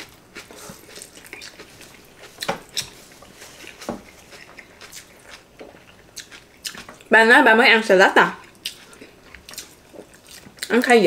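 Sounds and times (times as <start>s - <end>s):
person chewing crunchy food: 0.0s - 7.1s, 8.4s - 10.8s.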